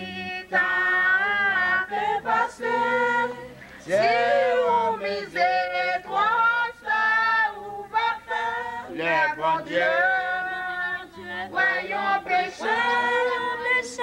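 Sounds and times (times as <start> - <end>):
group singing a hymn: 0.0 - 14.0.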